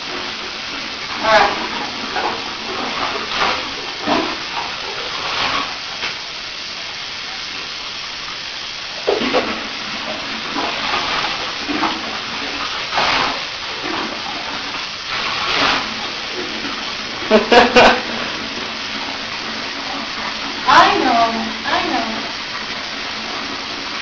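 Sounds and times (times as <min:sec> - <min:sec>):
bath water running: 0:00.0 - 0:24.0
loud water splashes: 0:00.0 - 0:24.0.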